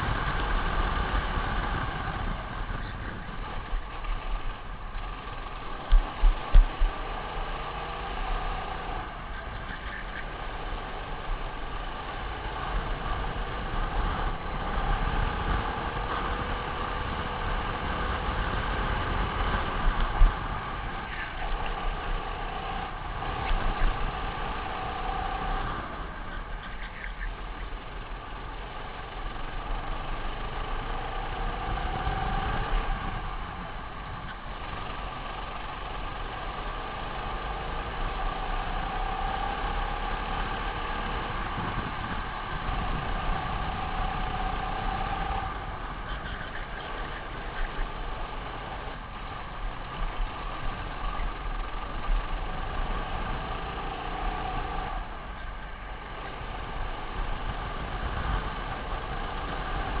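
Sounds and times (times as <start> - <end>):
kart engine revving: 0.0 - 60.0.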